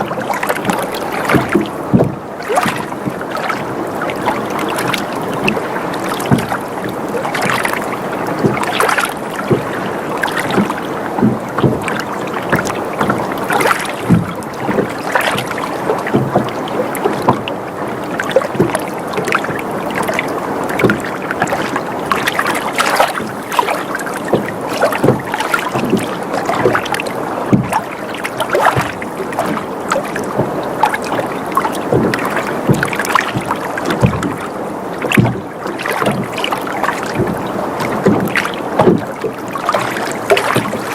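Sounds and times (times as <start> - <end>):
small knocks and splashes: 0.0 - 40.9
water lapping against hull: 0.0 - 40.9.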